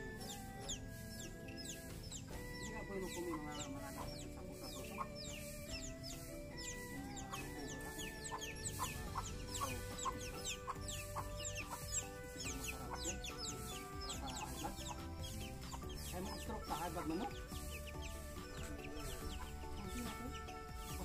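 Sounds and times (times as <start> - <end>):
high falling chirps: 0.0 - 20.6
background music: 0.0 - 21.0
chickens clucking: 0.0 - 21.0.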